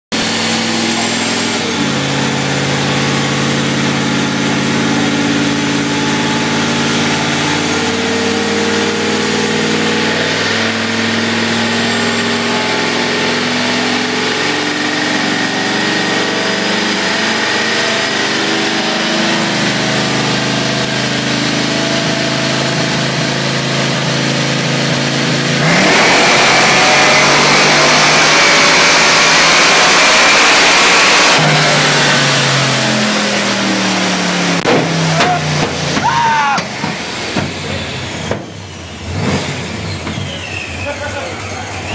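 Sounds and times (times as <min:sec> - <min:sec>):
car engine on dyno: 0:00.1 - 0:41.9
supercharger whine: 0:00.1 - 0:41.9.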